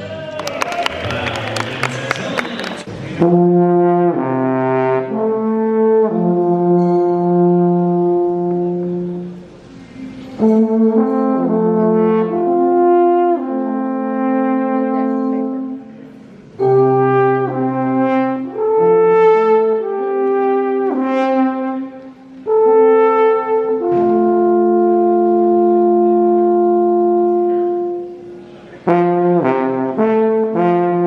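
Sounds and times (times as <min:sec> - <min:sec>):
brass instruments playing chords: 0:00.0 - 0:31.0.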